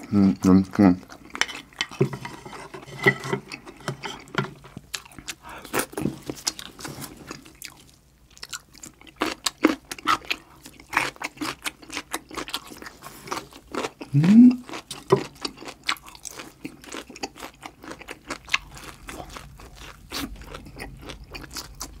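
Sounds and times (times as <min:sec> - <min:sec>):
person chewing and crunching: 0:00.0 - 0:22.0.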